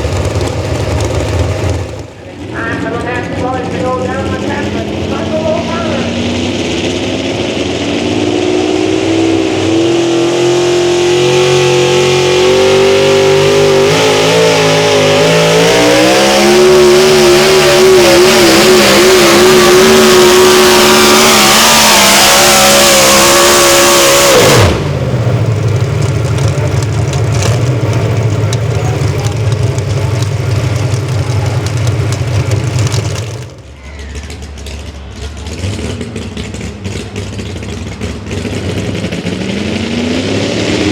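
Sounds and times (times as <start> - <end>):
engine at full throttle under load: 0.0 - 40.9.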